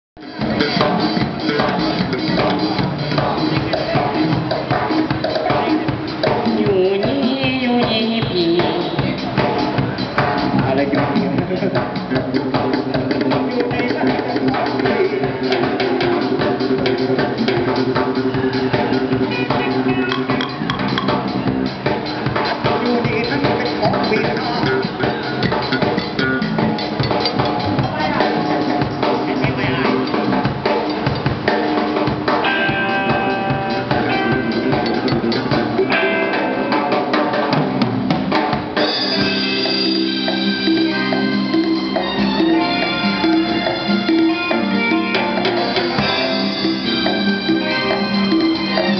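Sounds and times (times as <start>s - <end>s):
drum kit beating: 0.2s - 48.9s
live pop band playing: 0.2s - 48.9s.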